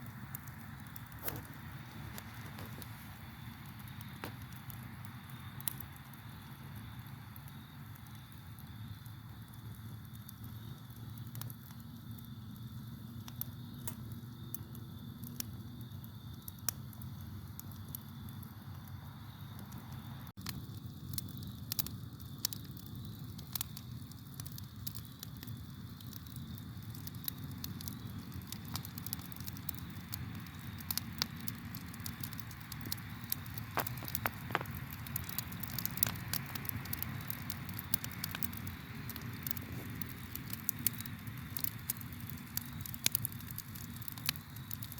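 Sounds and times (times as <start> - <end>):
campfire crackling and popping: 0.0 - 44.9
low rumble of flames: 0.0 - 44.9
crickets chirping: 0.1 - 44.9.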